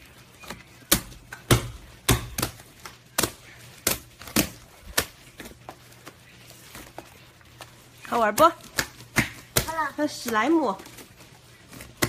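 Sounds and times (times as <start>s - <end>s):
slime popping and squelching: 0.0s - 12.0s.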